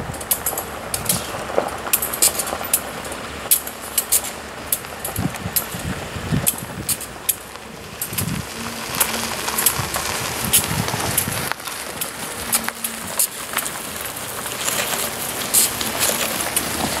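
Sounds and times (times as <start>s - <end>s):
crackling noise: 0.0s - 17.0s
locomotive engine rumble: 0.0s - 17.0s.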